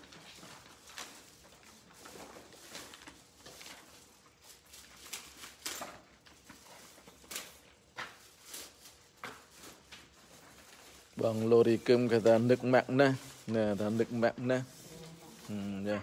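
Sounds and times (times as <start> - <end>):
paper envelopes rustling: 0.0 - 16.0.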